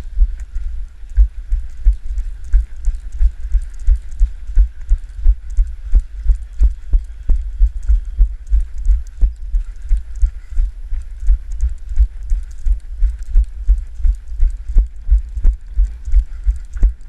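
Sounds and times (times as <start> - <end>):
footsteps jarring a camera: 0.0 - 17.0.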